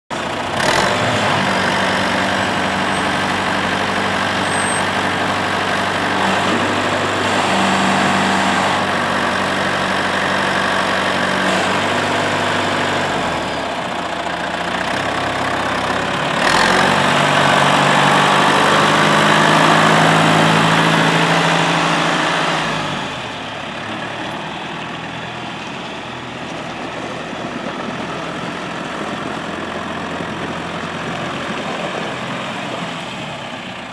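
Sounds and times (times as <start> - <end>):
tractor diesel engine idling: 0.1 - 33.9.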